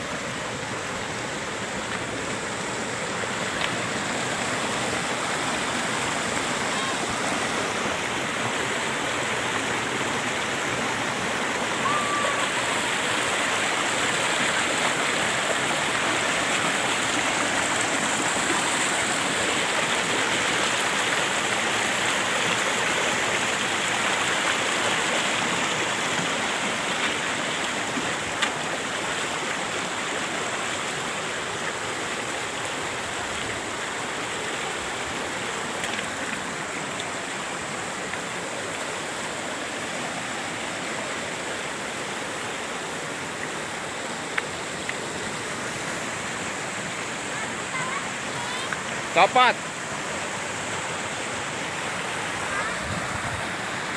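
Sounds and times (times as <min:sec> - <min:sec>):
waterfall and stream rushing: 0:00.0 - 0:53.9.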